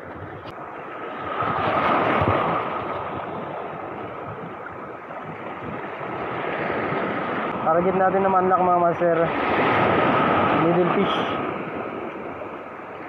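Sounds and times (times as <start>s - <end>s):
sea waves washing over rocks: 0.0s - 13.0s.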